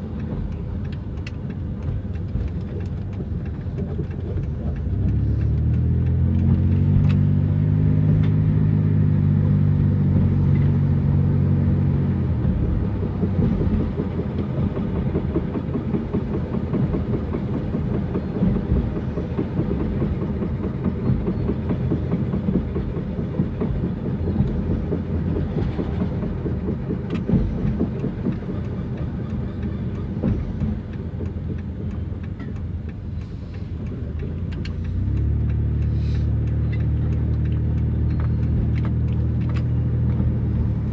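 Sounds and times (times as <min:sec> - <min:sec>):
engine drone: 0:00.0 - 0:40.9.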